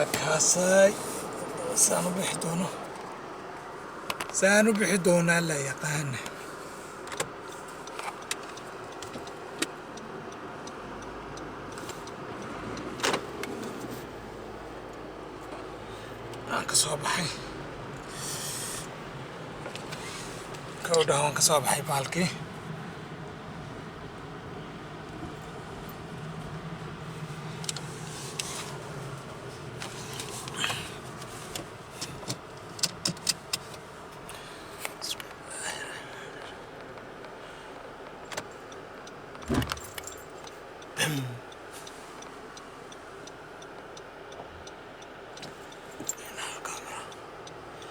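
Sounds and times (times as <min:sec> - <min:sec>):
car engine humming: 0:00.0 - 0:47.9.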